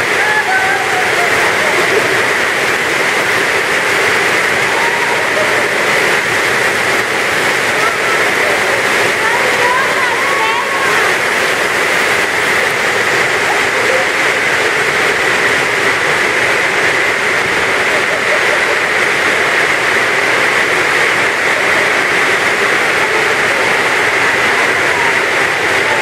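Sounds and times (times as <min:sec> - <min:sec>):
faint voices: 0:00.0 - 0:26.0
heavy rain pouring: 0:00.0 - 0:26.0.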